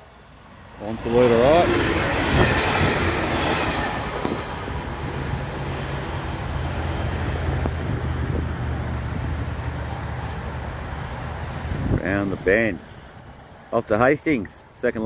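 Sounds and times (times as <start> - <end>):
rush of train wheels and air: 0.0 - 13.7
railcar engine humming: 0.0 - 14.8.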